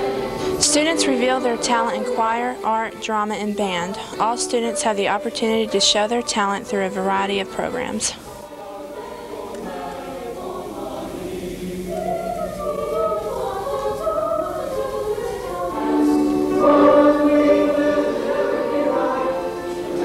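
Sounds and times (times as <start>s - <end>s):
mixed choir singing: 0.0s - 20.0s.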